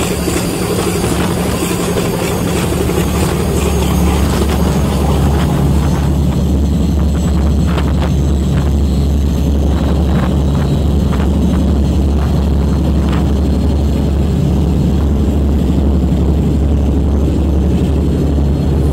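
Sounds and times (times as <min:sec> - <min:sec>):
boat diesel engines droning: 0:00.0 - 0:18.9
rush of boat wash: 0:00.0 - 0:18.9.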